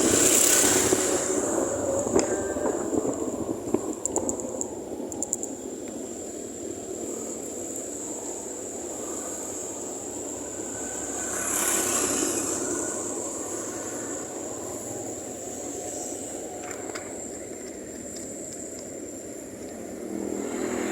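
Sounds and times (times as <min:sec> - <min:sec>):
motorcycle engine hum: 0:00.0 - 0:20.9
wind and road noise: 0:00.0 - 0:20.9.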